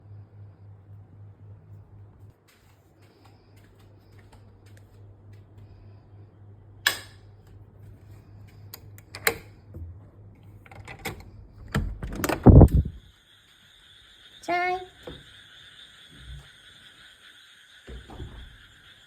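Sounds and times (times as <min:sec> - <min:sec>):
low steady hum: 0:00.0 - 0:18.7.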